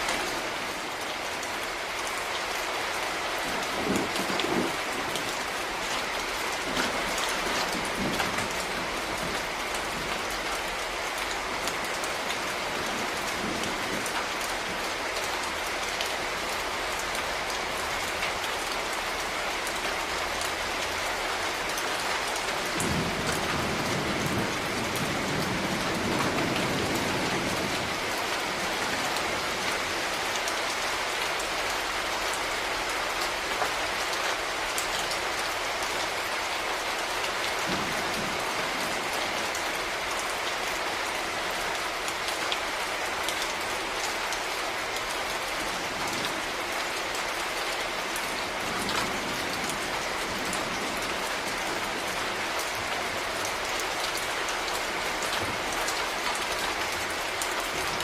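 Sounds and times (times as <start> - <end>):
rain drops ticking on hard surface: 0.0 - 58.0.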